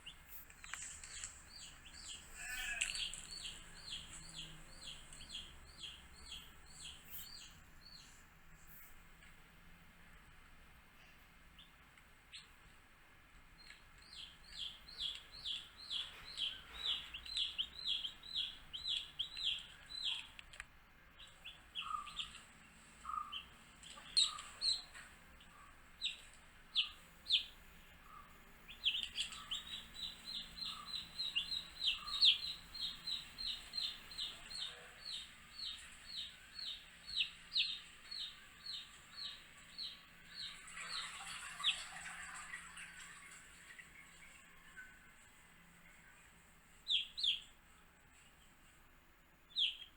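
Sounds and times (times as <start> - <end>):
baby chicks peeping: 0.0 - 8.2, 13.6 - 20.6, 21.2 - 47.6, 49.5 - 49.9.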